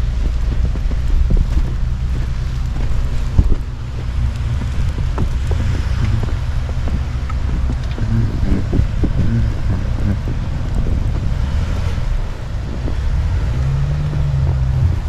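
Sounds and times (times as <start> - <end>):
vehicle engine running: 0.0 - 15.0
wind noise on microphone: 0.0 - 15.0.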